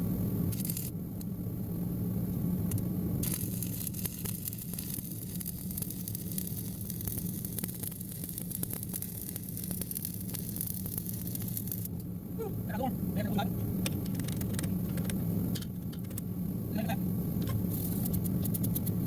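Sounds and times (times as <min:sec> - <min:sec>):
welding arc crackling and sizzling: 0:00.2 - 0:01.0, 0:01.6 - 0:19.0.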